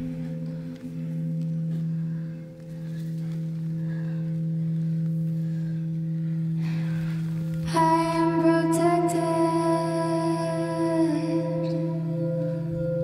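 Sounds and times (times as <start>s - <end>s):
low drone tone: 0.0s - 13.0s.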